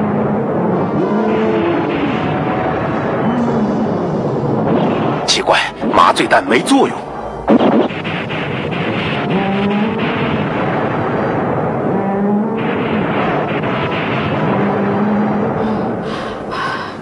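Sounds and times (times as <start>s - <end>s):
crackling hits: 0.0s - 17.0s
heavy rumble: 0.0s - 17.0s.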